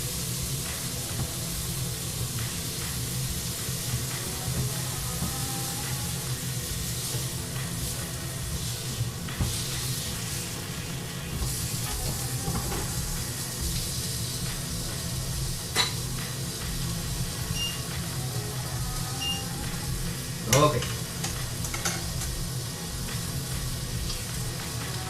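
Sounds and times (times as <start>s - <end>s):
meat sizzling in a pan: 0.0s - 25.0s.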